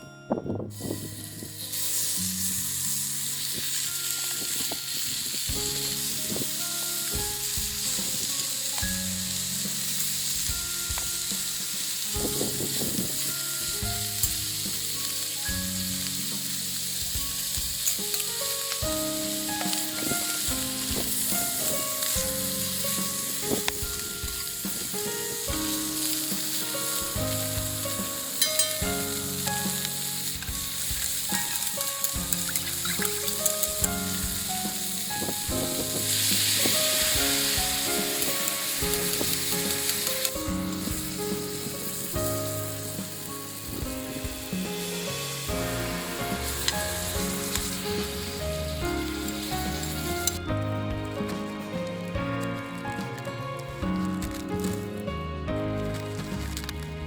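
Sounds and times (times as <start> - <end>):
background music: 0.0 - 57.0
food sizzling in a hot pan: 0.7 - 55.0
sharp crackles: 0.9 - 55.2, 55.8 - 57.0.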